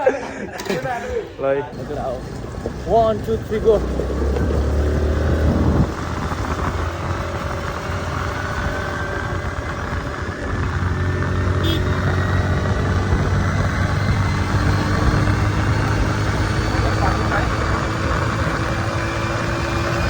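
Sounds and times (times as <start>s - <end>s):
road and wind noise: 0.0s - 20.0s
vehicle engine running: 1.8s - 20.0s.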